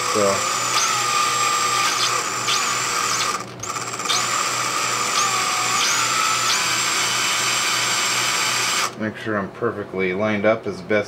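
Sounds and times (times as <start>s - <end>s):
electric drill whining: 0.0s - 9.0s.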